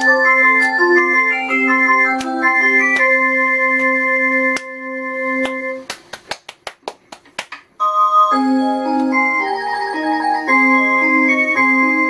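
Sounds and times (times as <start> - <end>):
musical clock melody: 0.0 - 5.8, 7.8 - 12.0.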